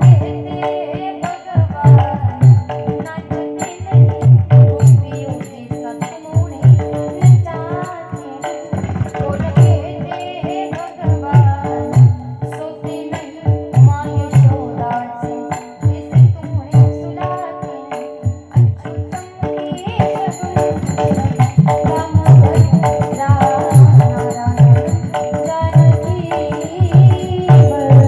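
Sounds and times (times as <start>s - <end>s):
small jingling cymbals: 0.0s - 28.0s.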